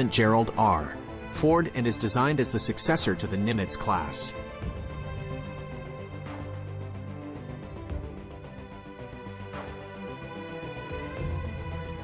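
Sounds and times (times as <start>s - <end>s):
music of sustained notes: 0.0s - 12.0s.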